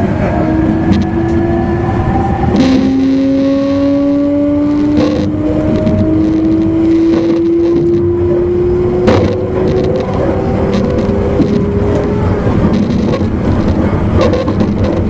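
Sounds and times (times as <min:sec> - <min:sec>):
rail clicks: 0:00.0 - 0:03.3, 0:04.0 - 0:15.0
train motor whine: 0:00.0 - 0:15.0
train running rumble: 0:00.0 - 0:15.0.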